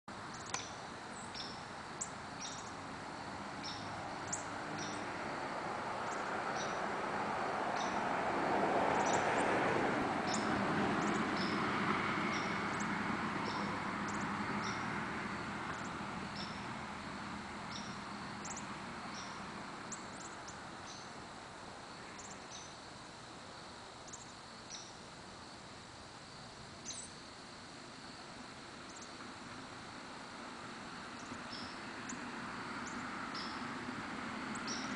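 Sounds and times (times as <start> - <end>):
outdoor background noise: 0.0 - 34.9.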